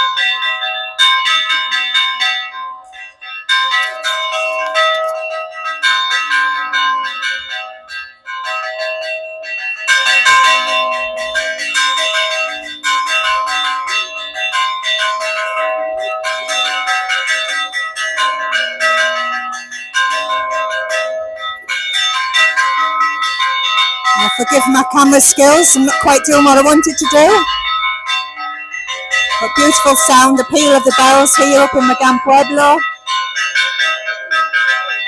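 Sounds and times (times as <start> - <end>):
church bells rung by hand: 0.0 - 35.0.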